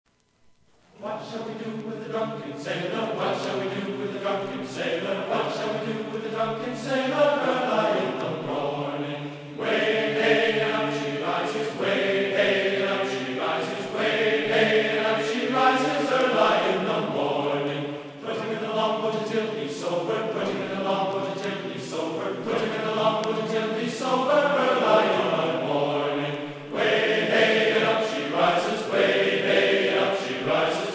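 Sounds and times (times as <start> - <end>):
choir chanting: 1.0 - 30.9.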